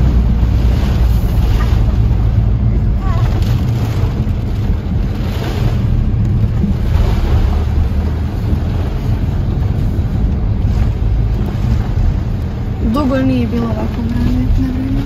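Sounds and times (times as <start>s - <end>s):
car driving on wet road: 0.0s - 15.0s
heavy rain on car windshield: 0.0s - 15.0s.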